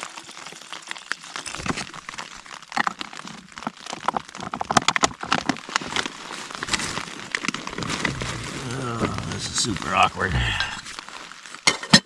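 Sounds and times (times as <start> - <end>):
plastic bags rustling: 0.0 - 12.0
rain tapping on tent: 0.0 - 12.0.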